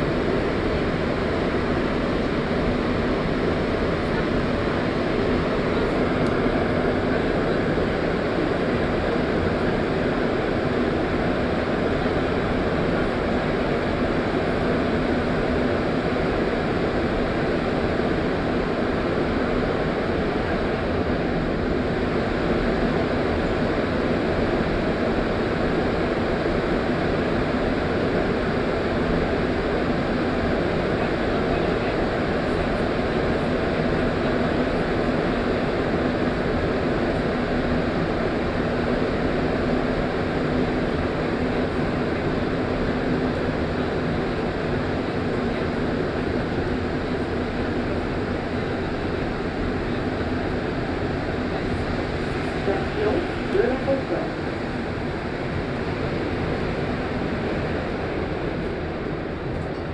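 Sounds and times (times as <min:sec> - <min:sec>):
train running through tunnel: 0:00.0 - 0:59.9.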